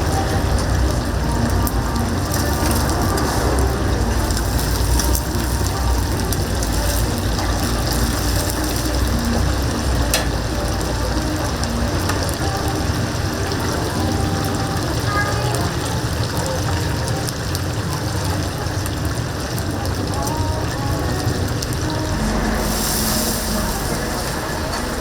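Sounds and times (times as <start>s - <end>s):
chicken deep-frying in oil: 0.0s - 25.0s.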